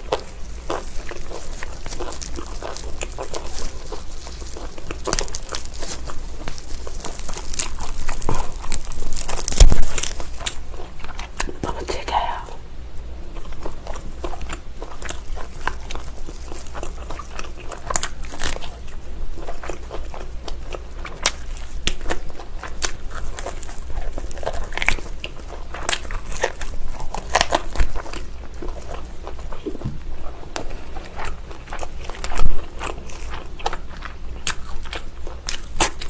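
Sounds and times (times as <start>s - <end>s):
chewing with wet mouth clicks: 0.0s - 11.8s, 13.3s - 36.0s.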